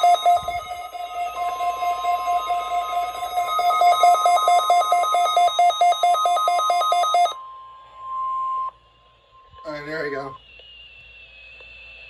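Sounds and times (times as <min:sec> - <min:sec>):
low and high electronic beeping: 0:00.0 - 0:12.0
steady warning alarm tone: 0:00.0 - 0:12.0.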